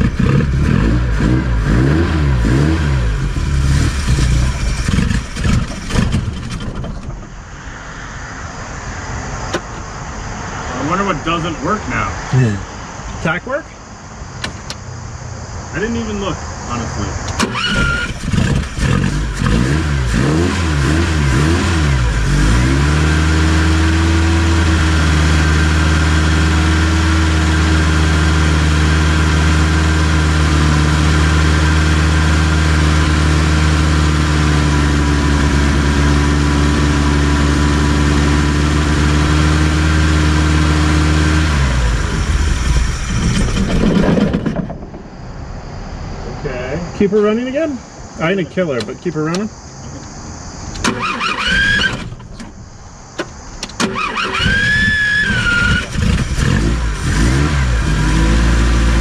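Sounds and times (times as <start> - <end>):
car engine revving: 0.0 - 12.9, 16.7 - 48.2, 50.7 - 52.5, 53.6 - 59.0.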